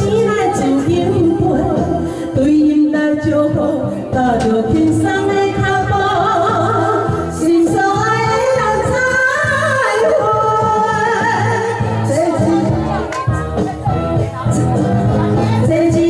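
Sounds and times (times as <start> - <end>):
amplified backing track with beat: 0.0 - 16.0
women singing karaoke: 0.0 - 16.0.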